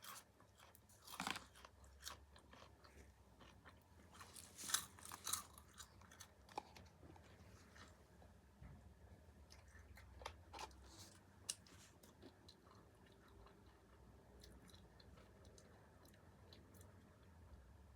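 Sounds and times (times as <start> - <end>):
chewing food with crunches: 0.0 - 8.4, 9.3 - 17.9.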